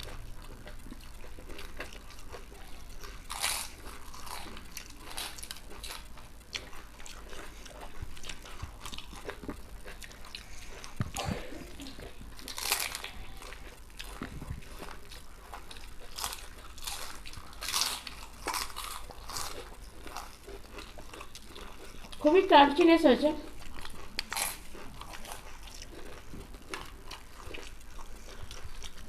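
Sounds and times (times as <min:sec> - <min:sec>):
crunchy chewing of crisp wafers: 0:00.0 - 0:29.0.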